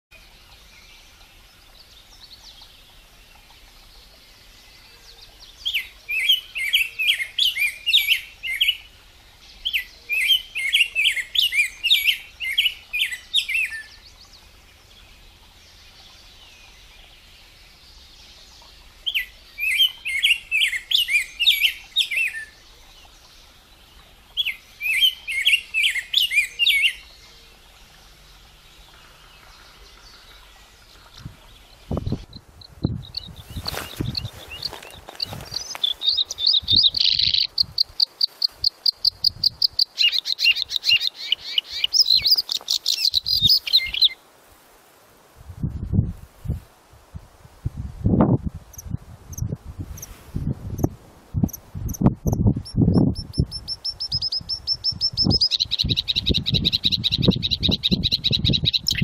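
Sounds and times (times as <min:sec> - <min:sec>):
bird warbling song: 0:00.1 - 0:44.2, 0:50.8 - 0:59.0.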